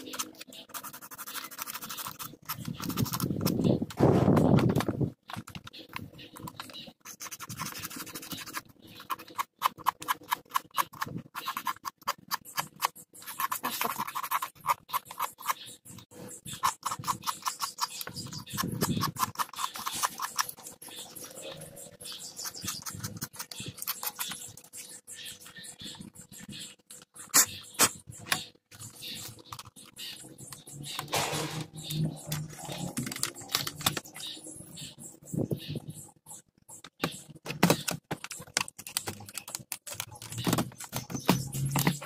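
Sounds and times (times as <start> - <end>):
sandpaper scratching circuit board: 0.0 - 42.0.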